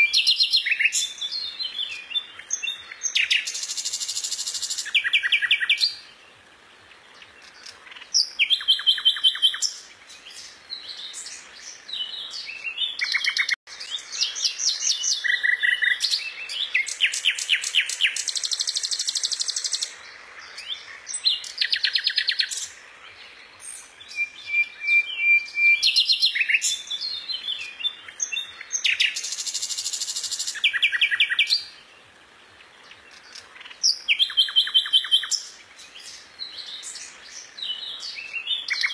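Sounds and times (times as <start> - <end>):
songbird trilling and chirping: 0.0 - 38.9.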